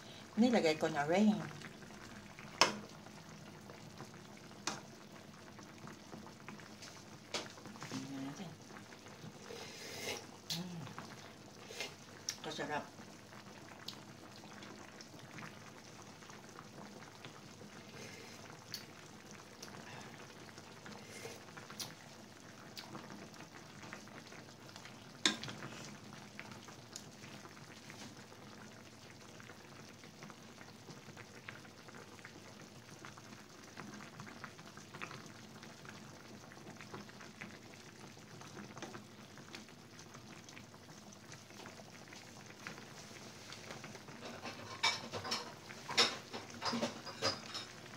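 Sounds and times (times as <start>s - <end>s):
broth bubbling in a pan: 0.0s - 47.9s.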